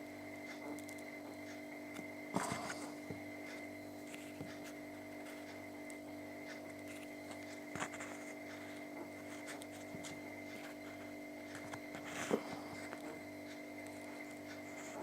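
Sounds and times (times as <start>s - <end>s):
steady electrical hum: 0.0s - 15.0s
thin high whine: 0.0s - 15.0s.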